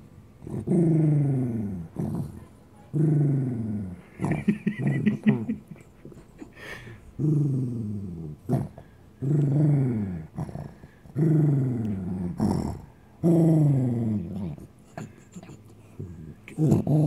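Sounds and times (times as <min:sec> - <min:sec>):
dog growling: 0:00.4 - 0:06.2, 0:07.2 - 0:17.0.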